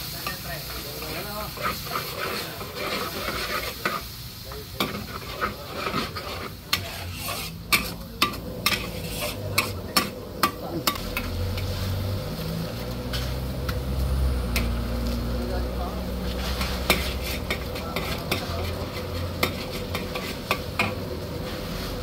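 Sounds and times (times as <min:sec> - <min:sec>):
metal ladle scraping a wok: 0:00.0 - 0:22.0
sizzle of frying: 0:00.0 - 0:22.0.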